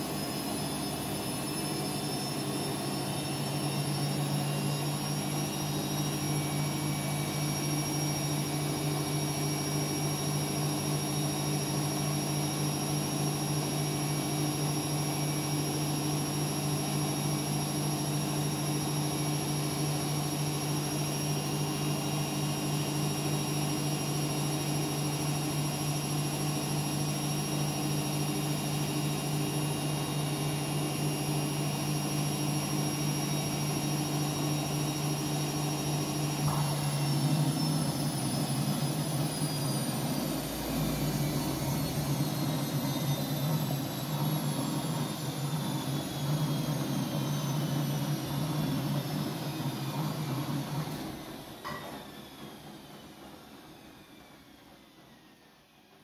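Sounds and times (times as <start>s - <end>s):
washing machine humming and whining: 0.0s - 56.0s.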